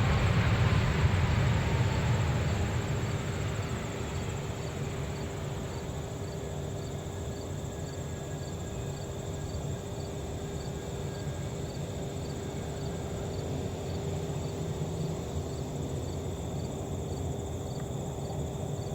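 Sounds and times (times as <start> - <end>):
jet engines humming: 0.0 - 17.7
crickets chirping: 0.0 - 18.9
high insect hiss: 0.0 - 18.9.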